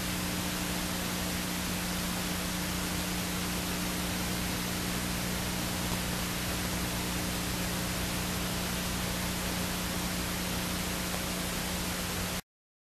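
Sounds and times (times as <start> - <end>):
steady hiss: 0.0 - 12.4.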